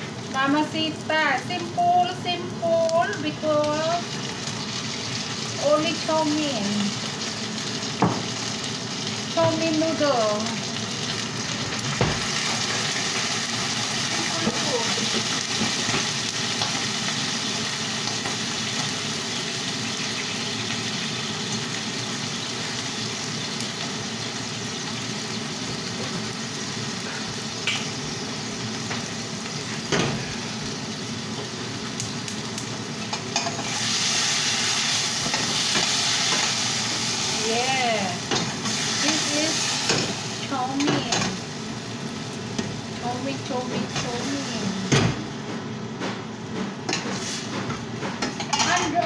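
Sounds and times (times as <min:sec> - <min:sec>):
noodles sizzling in a pan: 0:00.0 - 0:49.0.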